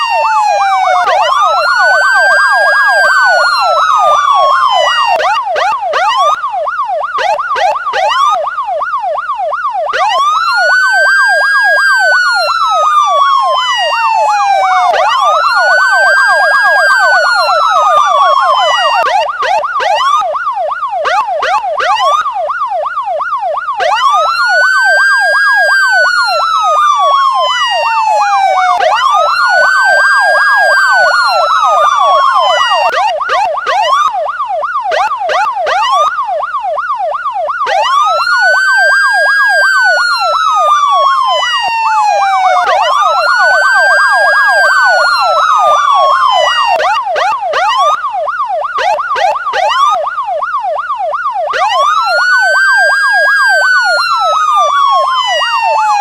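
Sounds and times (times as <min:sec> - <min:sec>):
police siren wail: 0:00.0 - 0:56.0
police siren yelp: 0:00.0 - 0:56.0.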